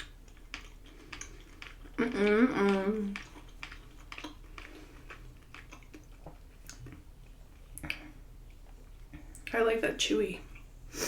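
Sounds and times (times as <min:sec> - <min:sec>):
person chewing: 0:00.0 - 0:09.3.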